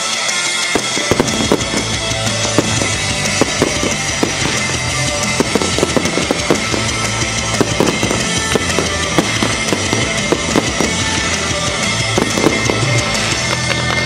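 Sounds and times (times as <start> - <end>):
fireworks popping and crackling: 0.0 - 14.0
music: 0.0 - 14.0.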